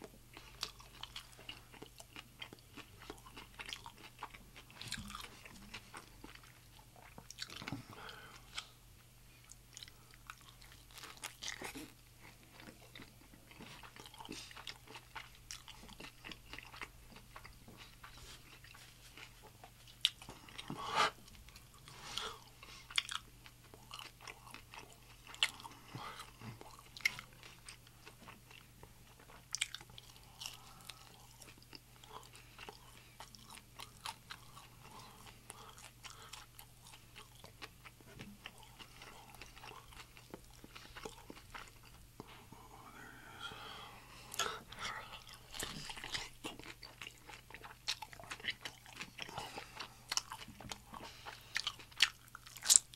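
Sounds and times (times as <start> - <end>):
chewing crunchy taco: 0.0 - 43.3, 44.2 - 52.9.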